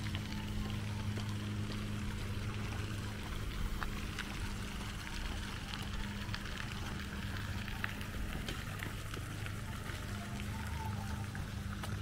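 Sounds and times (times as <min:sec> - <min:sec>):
fountain splashing onto water: 0:00.0 - 0:12.0
steady low hum: 0:00.0 - 0:12.0.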